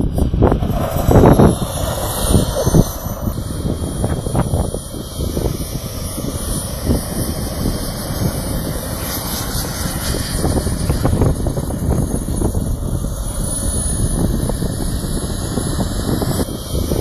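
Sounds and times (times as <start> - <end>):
high whine: 0.0 - 17.0
model jet engine roaring: 0.0 - 17.0
wind buffeting microphone: 0.0 - 17.0.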